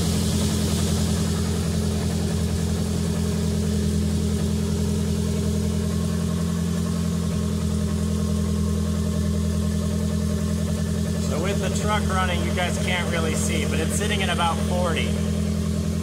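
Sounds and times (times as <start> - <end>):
pickup engine idling: 0.0 - 16.0.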